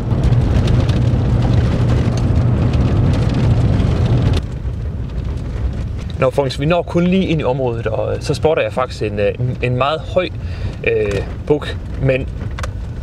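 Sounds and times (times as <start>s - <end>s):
engine and road hum in car: 0.0s - 13.0s
crackle of small ticks: 0.2s - 7.9s, 9.4s - 13.0s.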